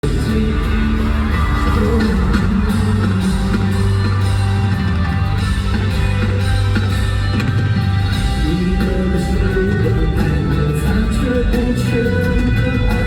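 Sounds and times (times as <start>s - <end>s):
live pop-rock band: 0.0s - 13.0s.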